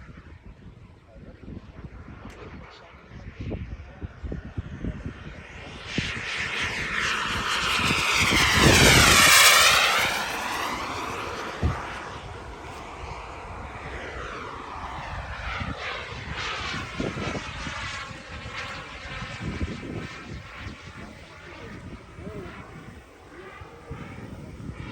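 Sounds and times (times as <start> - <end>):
wind gusts on microphone: 0.0 - 24.9
model jet turbine whine: 0.1 - 24.9.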